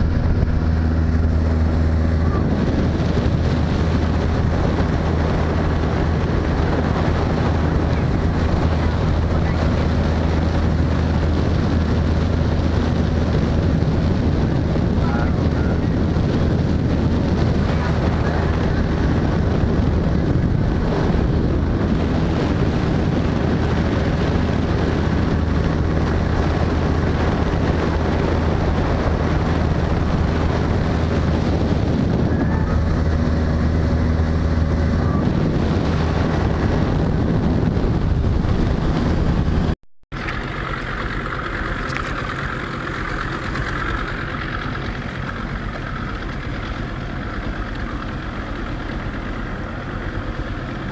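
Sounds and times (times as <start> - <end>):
boat motor running: 0.0 - 50.9
water rushing past hull: 0.0 - 50.9
wind on microphone: 0.0 - 50.9.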